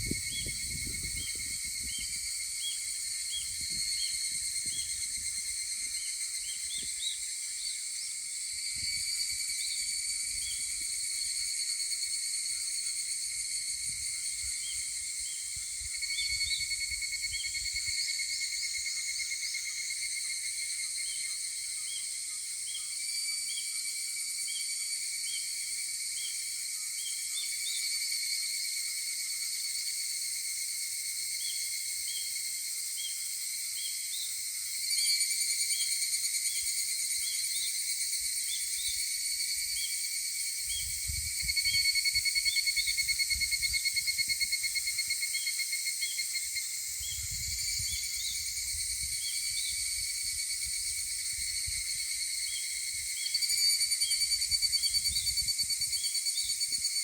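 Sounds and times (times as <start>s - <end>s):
cicada rapid pulsing call: 0.0s - 57.0s
cicadas ringing trill: 0.0s - 57.0s.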